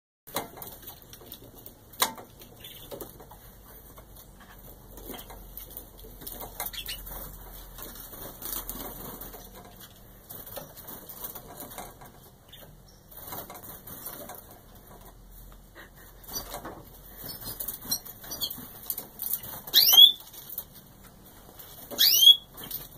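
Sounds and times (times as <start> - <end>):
canaries chirping: 0.6 - 22.9.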